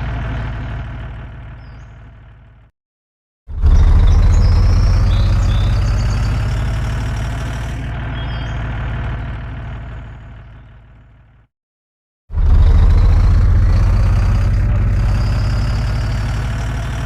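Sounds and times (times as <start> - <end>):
diesel truck engine throbbing: 0.0 - 2.7, 3.5 - 11.5, 12.3 - 17.0.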